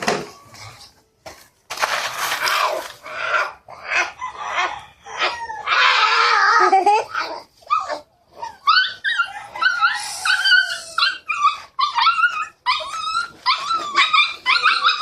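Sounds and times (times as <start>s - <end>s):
dog whining and yipping: 2.4s - 15.0s.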